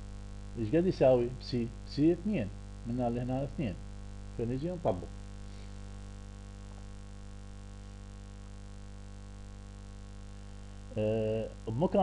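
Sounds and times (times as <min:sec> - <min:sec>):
electrical mains hum: 0:00.0 - 0:12.0
low hiss: 0:00.0 - 0:12.0.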